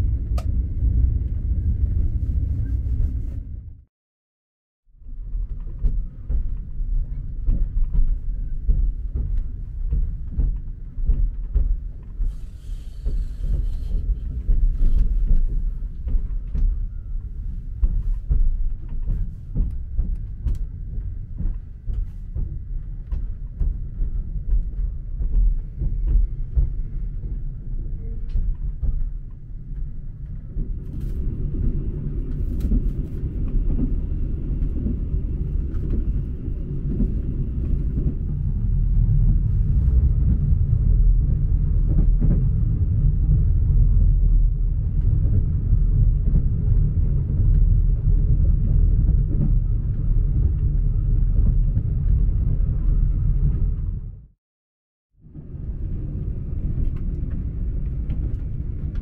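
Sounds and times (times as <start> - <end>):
train carriage low rumble: 0.0 - 3.9, 4.9 - 54.4, 55.2 - 59.0
train clicks and rattles: 5.1 - 54.1, 55.4 - 59.0.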